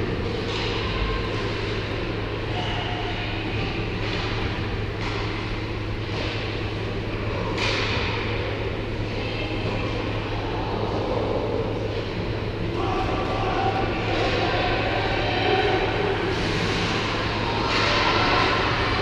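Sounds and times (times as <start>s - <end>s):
constant low hum: 0.0s - 19.0s
ice rink crowd din: 0.0s - 19.0s.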